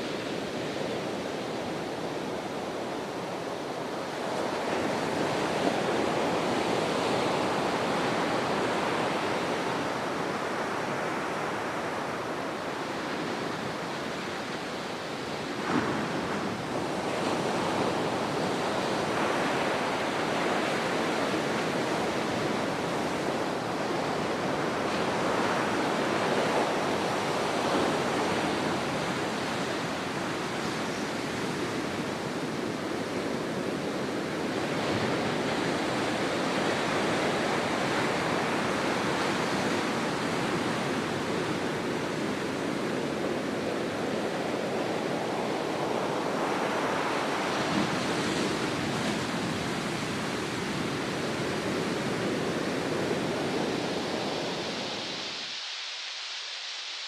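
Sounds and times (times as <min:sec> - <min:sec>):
ocean waves washing on shore: 0:00.0 - 0:57.0.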